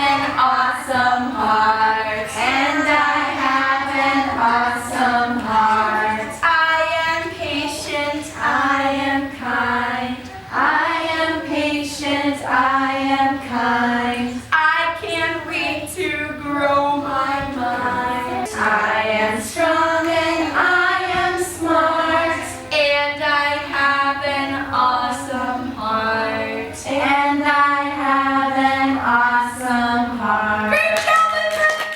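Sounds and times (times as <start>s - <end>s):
children and woman singing: 0.0s - 31.9s.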